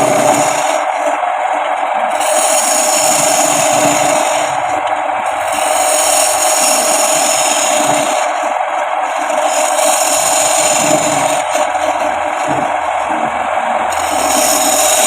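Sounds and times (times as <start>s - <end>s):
wood lathe hissing and scraping: 0.0s - 15.0s.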